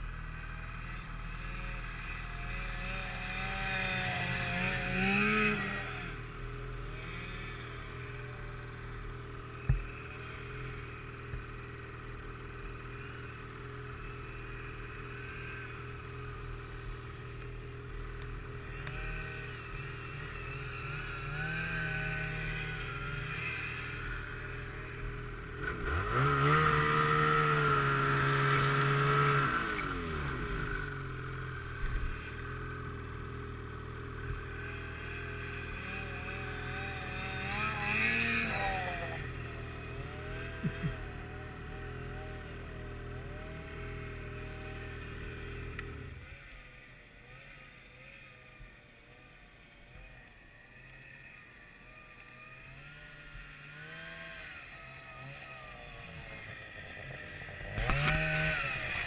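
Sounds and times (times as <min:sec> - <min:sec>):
snowmobile engine approaching: 0:00.0 - 0:59.0
snowmobile engine idling: 0:00.0 - 0:59.0.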